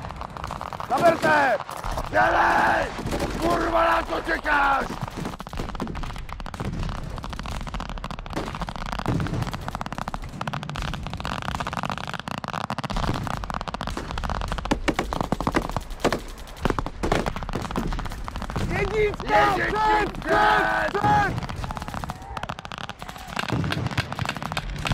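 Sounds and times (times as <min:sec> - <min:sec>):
heavy bangs: 0:00.0 - 0:24.9
rifle shots: 0:00.0 - 0:24.9.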